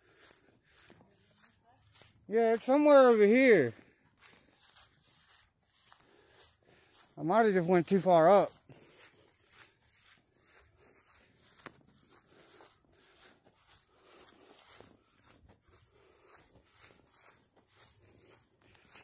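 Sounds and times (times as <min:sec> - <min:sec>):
footsteps on grass: 0:00.0 - 0:19.0.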